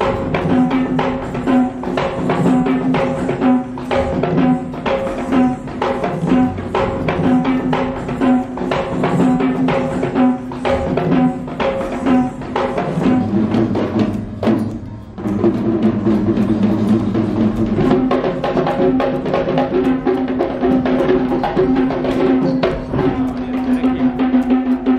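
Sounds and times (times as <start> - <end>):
barrel drums fast rhythm: 0.0 - 24.9.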